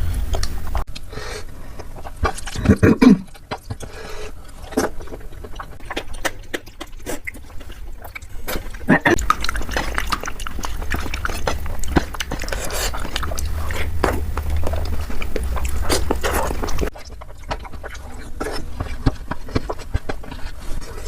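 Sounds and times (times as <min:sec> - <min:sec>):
person chewing crunchy food: 0:00.0 - 0:21.0
wet mouth sounds: 0:01.8 - 0:21.0.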